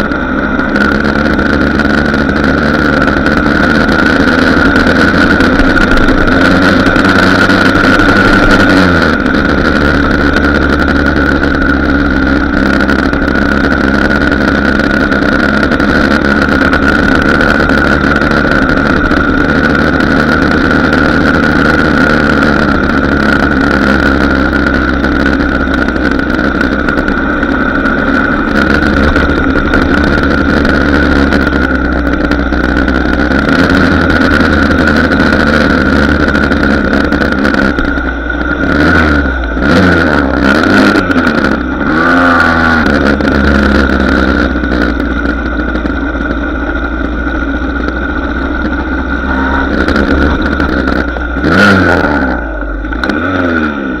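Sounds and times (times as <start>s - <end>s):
two-stroke moped engine running: 0.0s - 54.0s.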